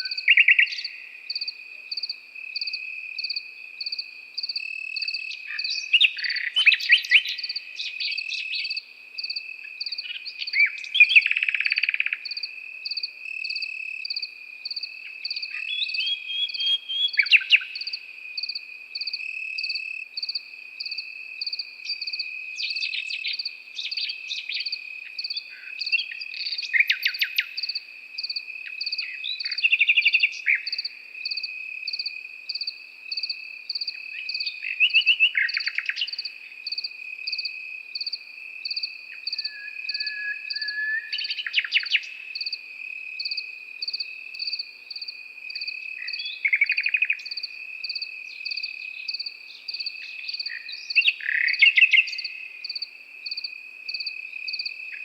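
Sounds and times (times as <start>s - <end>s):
crickets trilling and chirping: 0.0s - 55.0s
nightingale singing: 0.0s - 55.0s.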